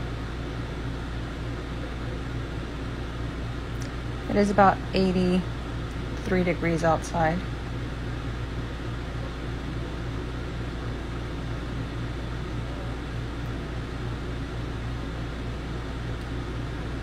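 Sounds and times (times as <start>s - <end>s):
air conditioner fan running: 0.0s - 17.0s.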